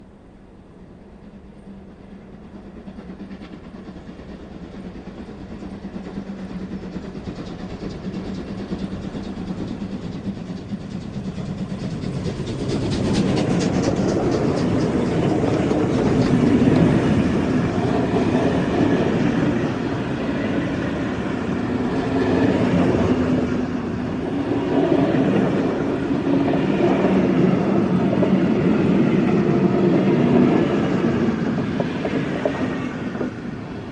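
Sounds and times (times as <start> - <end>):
steam train running past: 0.0 - 33.9.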